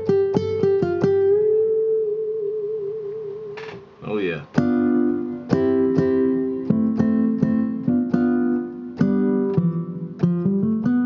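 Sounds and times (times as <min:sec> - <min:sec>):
nylon-string guitar chords: 0:00.0 - 0:11.0.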